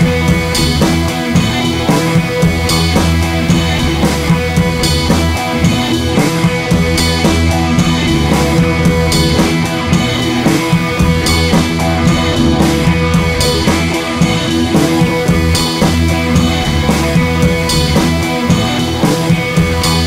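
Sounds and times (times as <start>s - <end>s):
rock music with drums and guitar: 0.0s - 20.0s.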